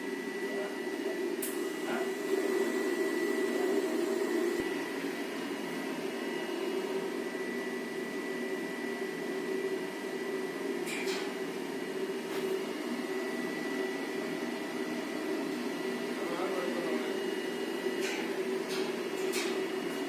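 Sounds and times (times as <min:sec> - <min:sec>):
fan-like hum: 0:00.0 - 0:20.0.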